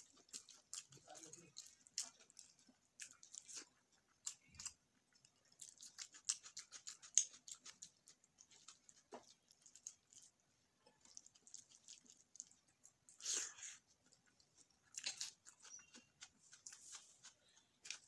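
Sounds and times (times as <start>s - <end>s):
wet chewing and lip-smacking: 0.0s - 18.0s.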